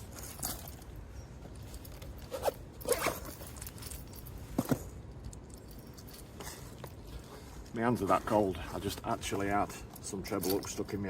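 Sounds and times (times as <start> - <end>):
clothing and tackle rustling: 0.0 - 11.0.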